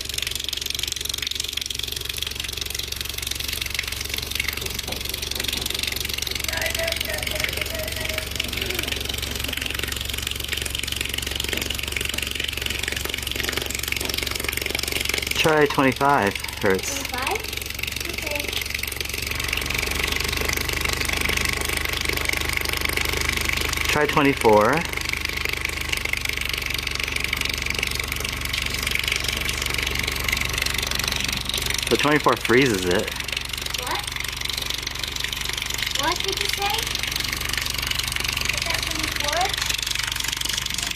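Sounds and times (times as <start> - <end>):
subwoofer buzzing and rattling: 0.0 - 32.2, 33.0 - 40.9
hose water hitting speaker: 0.0 - 40.9.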